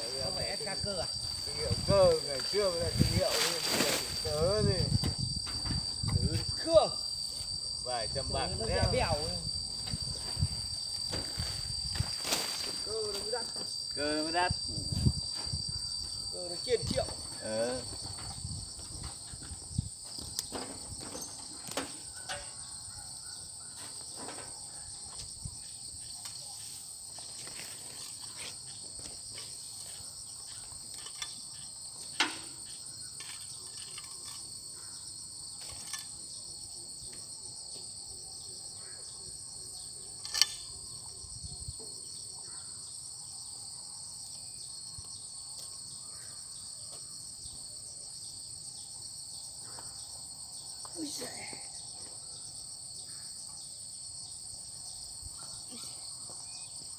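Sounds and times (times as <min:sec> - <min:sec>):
insect chorus buzzing: 0:00.0 - 0:56.9.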